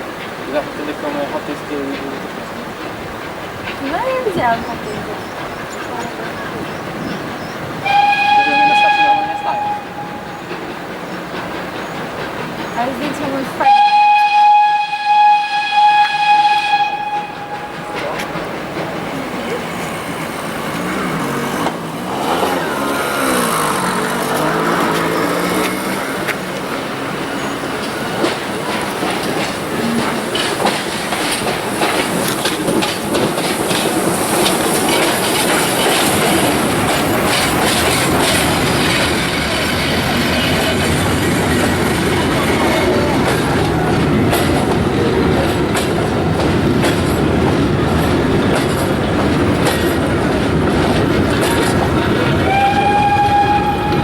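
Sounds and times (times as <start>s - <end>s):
train rolling rumble: 0.0s - 54.0s
train wheels clicking over rail joints: 0.0s - 54.0s.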